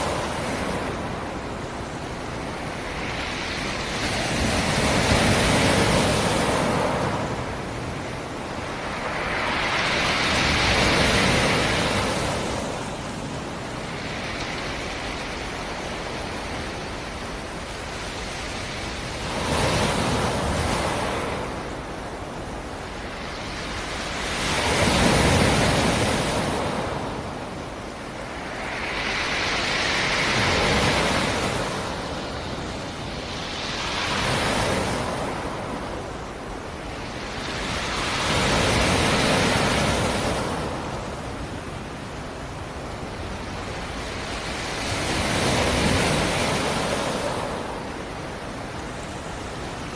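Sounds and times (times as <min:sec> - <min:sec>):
waves breaking: 0:00.0 - 0:49.9.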